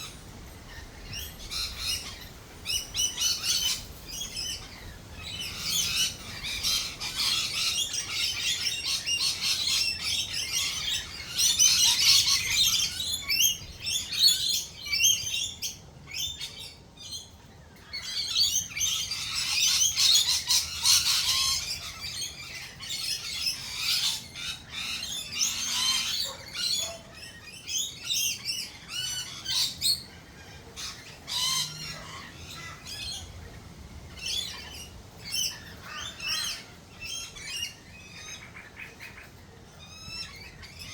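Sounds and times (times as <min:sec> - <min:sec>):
birds chattering and squawking: 0:00.0 - 0:40.9.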